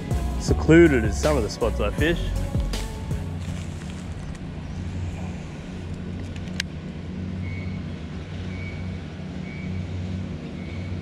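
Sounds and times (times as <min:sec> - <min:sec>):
distant engine hum: 0:00.0 - 0:11.0.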